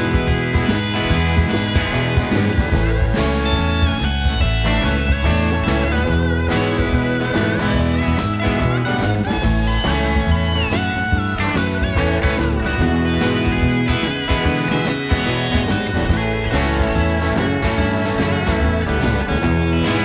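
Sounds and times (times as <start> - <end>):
bass and steady beat: 0.0 - 20.0
lead guitar bending notes: 0.0 - 20.0.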